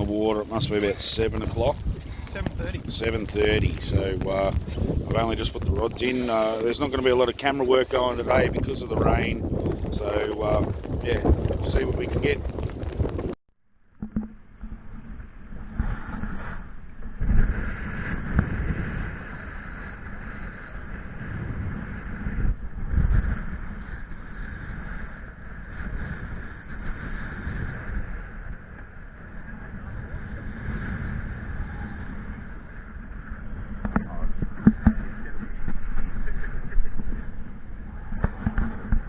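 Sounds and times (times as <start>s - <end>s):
wind buffeting microphone: 0.0s - 13.4s, 14.1s - 39.0s.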